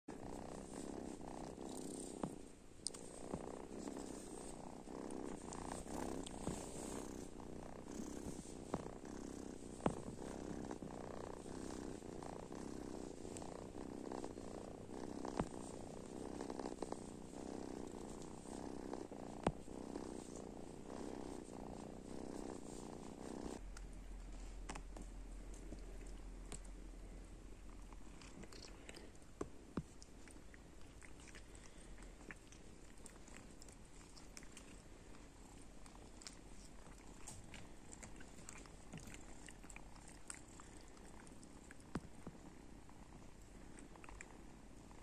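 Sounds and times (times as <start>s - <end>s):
kitten purring: 0.1s - 45.0s
low steady hum: 0.1s - 45.0s.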